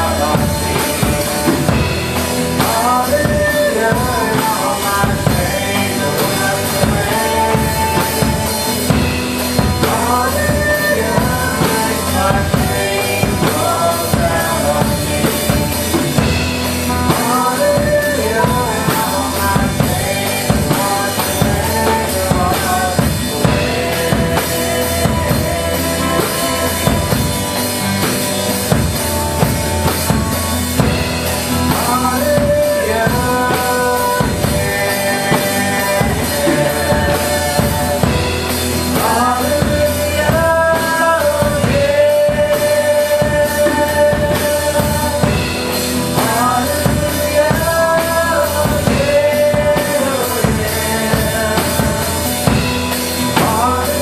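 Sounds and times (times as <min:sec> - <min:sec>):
bass drum and rimshots: 0:00.0 - 0:54.0
rock band playing live: 0:00.0 - 0:54.0.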